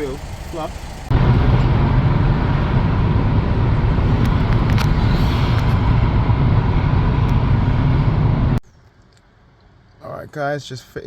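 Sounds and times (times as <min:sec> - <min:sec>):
vehicle engine rumble: 0:00.0 - 0:08.9.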